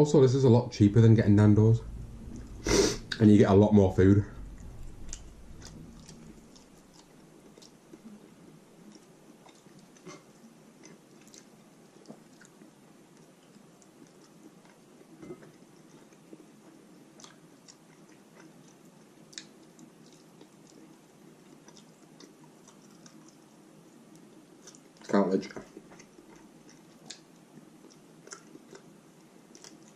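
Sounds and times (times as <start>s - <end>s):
faint chewing: 4.3s - 29.9s.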